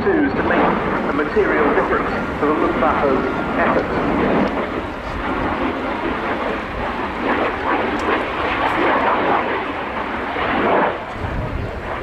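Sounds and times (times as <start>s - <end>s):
aircraft engine rushing: 0.0s - 12.0s.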